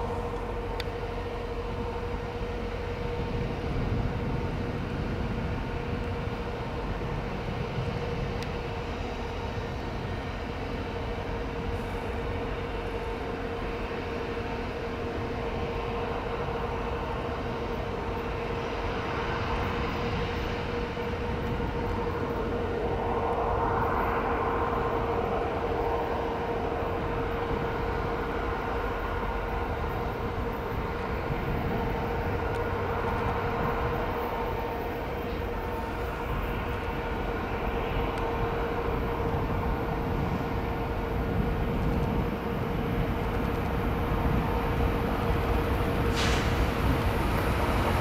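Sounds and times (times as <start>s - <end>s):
locomotive engine drone: 0.0s - 48.0s.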